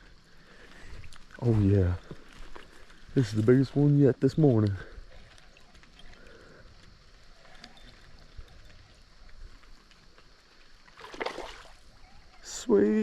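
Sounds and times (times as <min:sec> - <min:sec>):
small ticks: 0:00.0 - 0:12.5
faint flowing river: 0:00.0 - 0:13.0.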